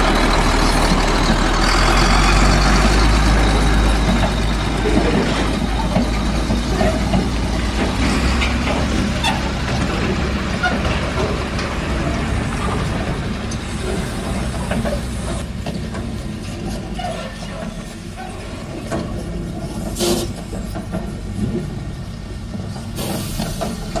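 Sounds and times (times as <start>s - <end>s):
diesel engine running: 0.0s - 24.0s
trailer clanking and rattling: 0.0s - 24.0s.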